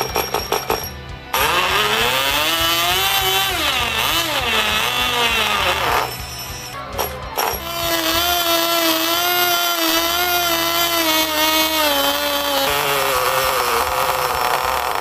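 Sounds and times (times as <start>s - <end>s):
small engine revving high: 1.3s - 6.2s, 7.6s - 15.0s.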